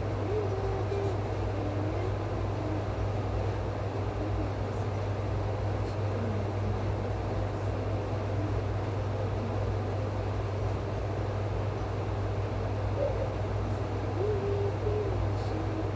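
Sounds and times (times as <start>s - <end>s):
low machine hum: 0.0s - 15.9s.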